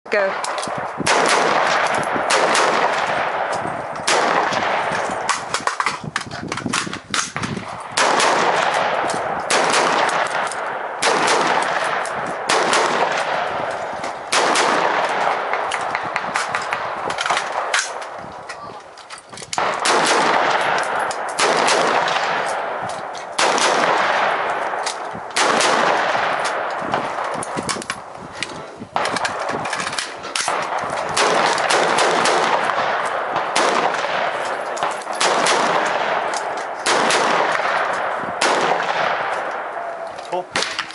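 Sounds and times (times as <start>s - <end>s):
rifle firing rapid shots: 0.2s - 5.9s, 6.7s - 18.2s, 19.6s - 27.8s, 29.0s - 39.8s.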